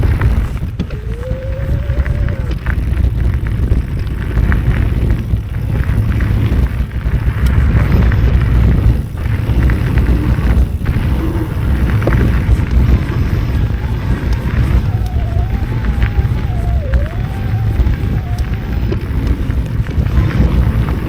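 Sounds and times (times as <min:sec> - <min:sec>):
bike rattling on dirt trail: 0:00.0 - 0:21.0
wind rumbling on microphone: 0:00.0 - 0:21.0.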